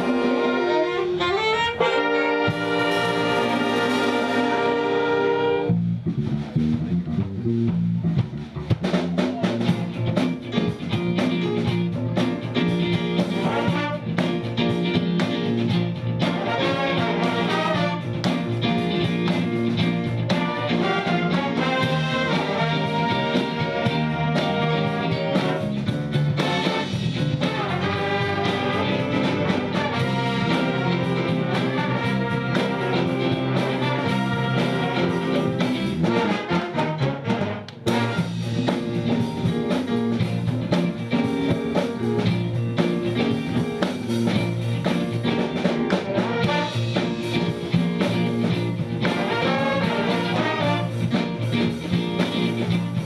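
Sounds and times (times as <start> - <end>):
big band playing jazz-funk: 0.0 - 53.0.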